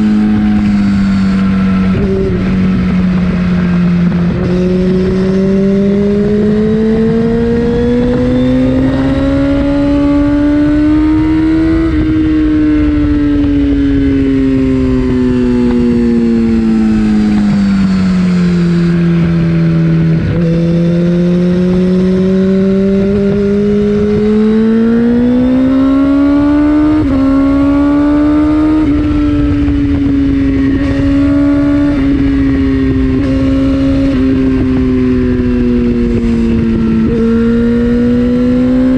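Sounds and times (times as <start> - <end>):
motorcycle engine under load: 0.0 - 38.9
wind rush: 0.0 - 38.9.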